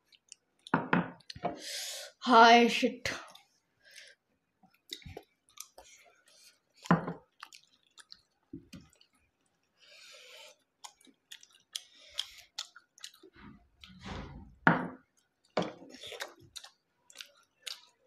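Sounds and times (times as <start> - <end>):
people chewing food: 0.0 - 1.6, 3.1 - 18.0.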